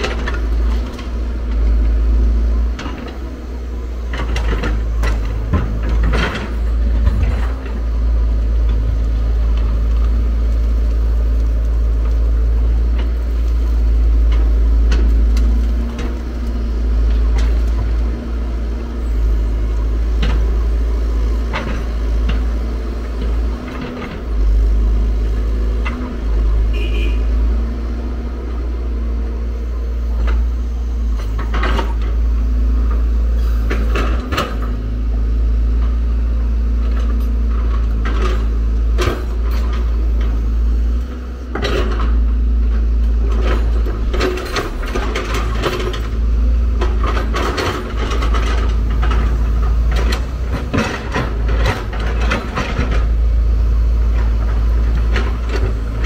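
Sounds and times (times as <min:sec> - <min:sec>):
diesel excavator engine running: 0:00.0 - 0:56.0.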